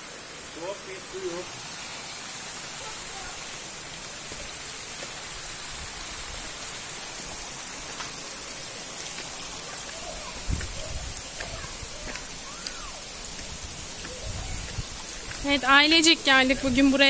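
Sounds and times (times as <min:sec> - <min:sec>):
creek rushing over stones: 0:00.0 - 0:17.0.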